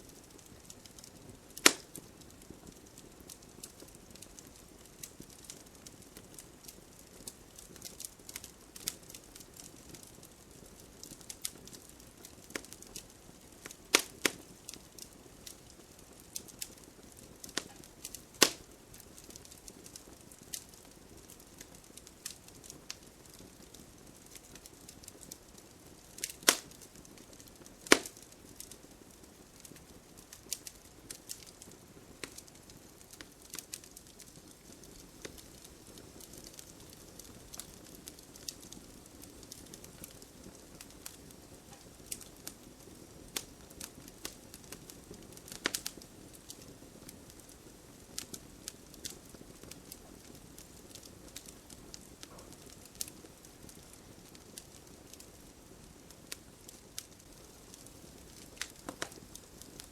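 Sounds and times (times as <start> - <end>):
campfire crackling and popping: 0.0 - 59.9
hiss of burning: 0.1 - 59.9.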